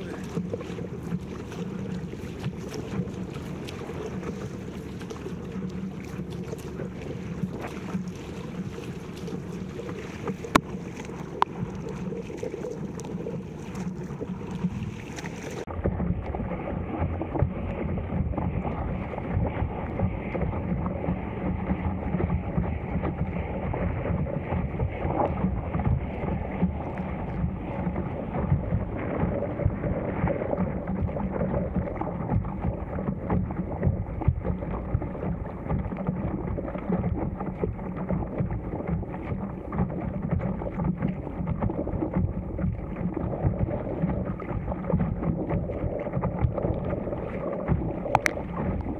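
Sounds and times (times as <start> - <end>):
water splashing and lapping: 0.0 - 48.9.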